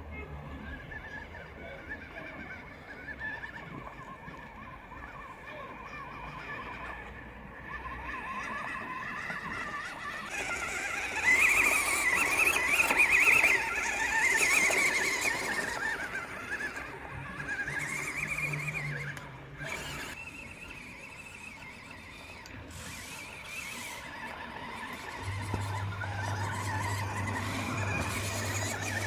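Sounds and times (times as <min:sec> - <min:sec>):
toy car electric motor whining: 0:00.2 - 0:29.0.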